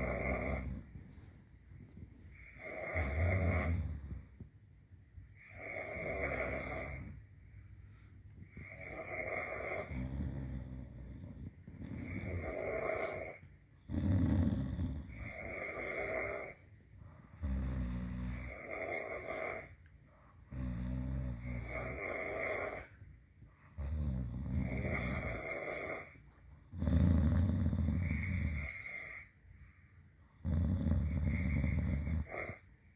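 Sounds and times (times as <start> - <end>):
heavy snoring: 0.0 - 1.0, 2.3 - 4.4, 5.4 - 7.2, 8.5 - 16.6, 17.2 - 23.0, 23.6 - 29.4, 30.3 - 32.7.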